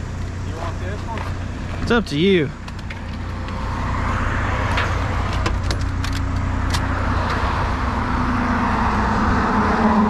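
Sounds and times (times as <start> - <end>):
road noise rushing: 0.0 - 10.0
vehicle engine running: 0.0 - 10.0.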